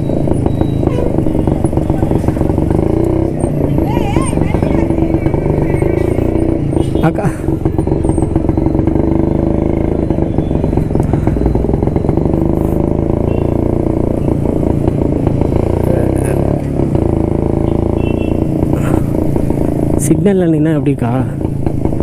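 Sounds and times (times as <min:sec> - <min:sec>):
two-stroke motorcycle engine running: 0:00.0 - 0:22.0.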